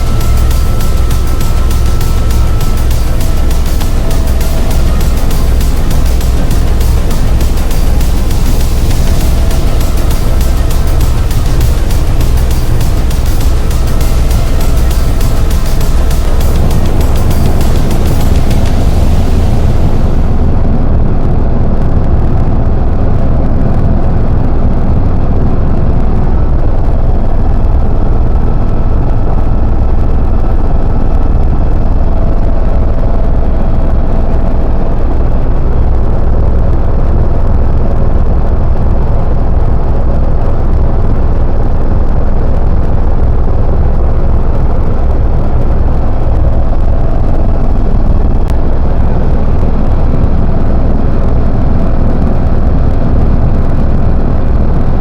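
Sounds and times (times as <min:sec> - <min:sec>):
faint steady whine: 0:00.0 - 0:55.0
helicopter engine and rotor drone: 0:00.0 - 0:55.0.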